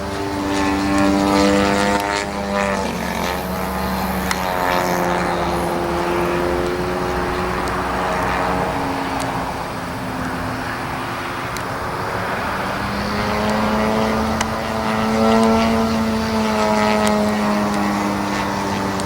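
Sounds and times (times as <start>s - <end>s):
model airplane engine drone: 0.0s - 19.0s.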